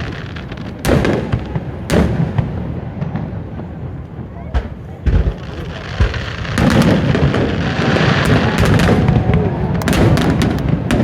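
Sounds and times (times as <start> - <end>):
fireworks sharp cracks: 0.0 - 11.0
rumble of fireworks booms: 0.0 - 11.0.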